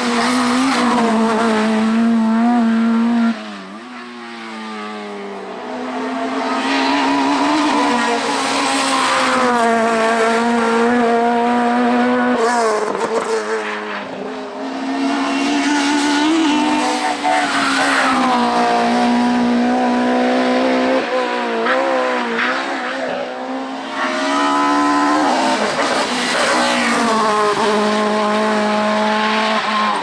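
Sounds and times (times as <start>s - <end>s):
race car engine at high revs: 0.0s - 30.0s.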